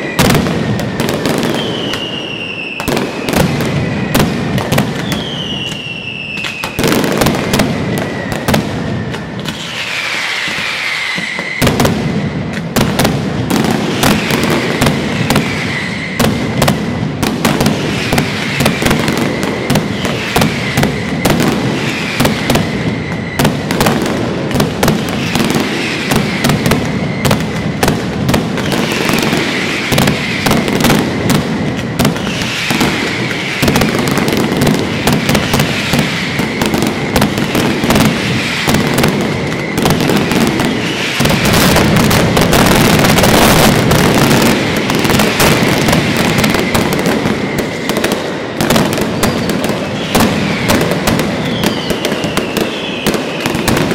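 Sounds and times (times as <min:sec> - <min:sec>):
firecrackers banging: 0:00.0 - 0:53.9
whistling fireworks: 0:00.0 - 0:53.9.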